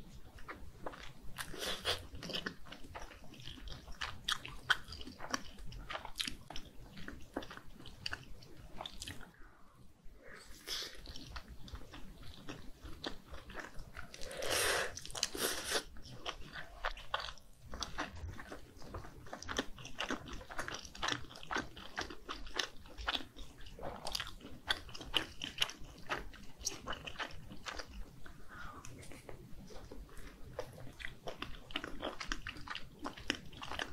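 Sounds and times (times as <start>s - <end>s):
wet chewing clicks and smacks: 0.2s - 9.3s, 11.0s - 14.3s, 14.9s - 33.9s.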